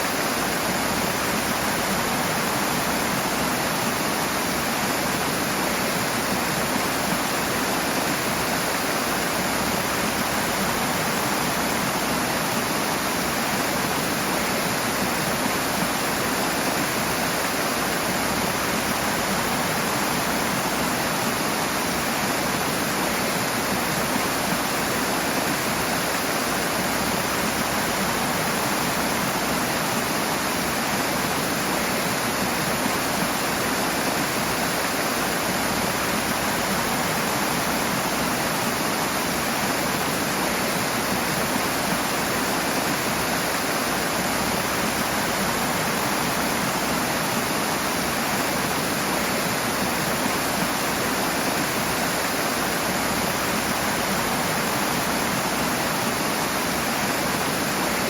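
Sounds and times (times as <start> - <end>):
rushing water roar: 0.0 - 58.0.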